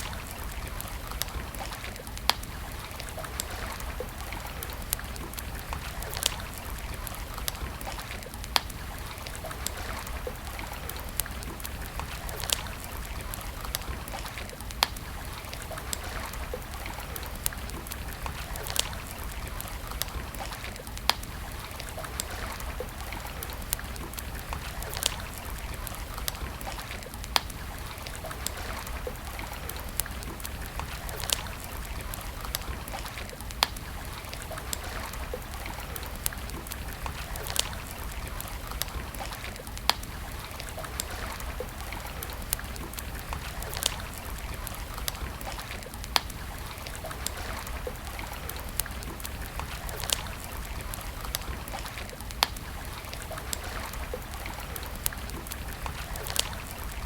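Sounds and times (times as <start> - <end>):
campfire crackling and popping: 0.0 - 57.0
rushing flowing water: 0.0 - 57.0.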